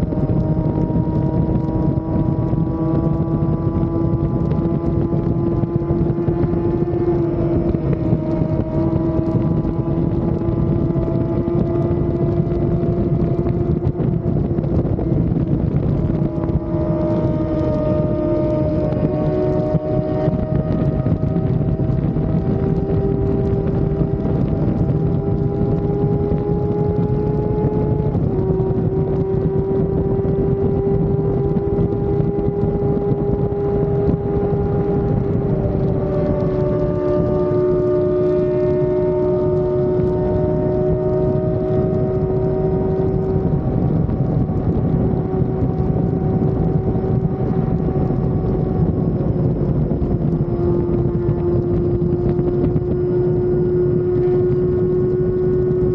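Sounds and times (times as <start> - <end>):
motorcycle engine at high revs: 0.0 - 55.9
wind rushing: 0.0 - 55.9.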